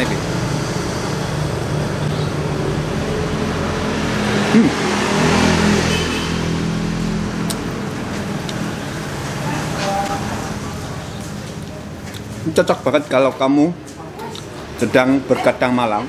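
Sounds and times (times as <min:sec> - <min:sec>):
motor vehicle passing: 0:00.0 - 0:15.3.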